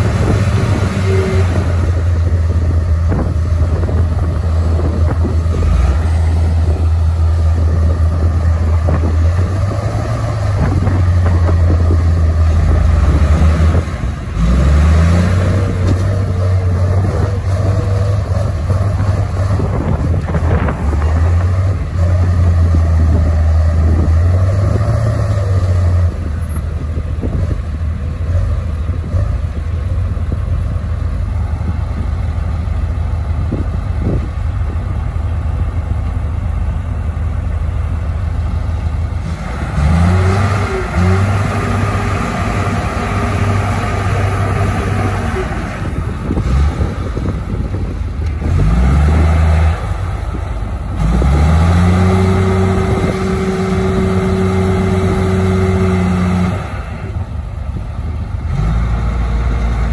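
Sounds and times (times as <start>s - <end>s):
bulldozer diesel engines labouring: 0.0s - 59.9s.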